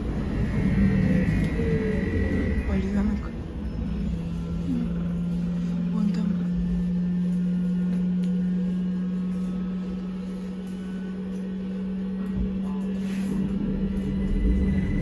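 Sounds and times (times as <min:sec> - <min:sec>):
low rumble: 0:00.0 - 0:15.0
trolleybus electrical hum: 0:00.0 - 0:15.0.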